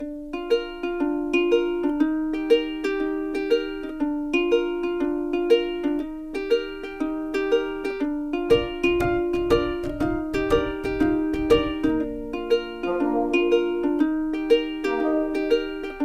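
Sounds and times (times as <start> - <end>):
plucked string melody: 0.0 - 16.0.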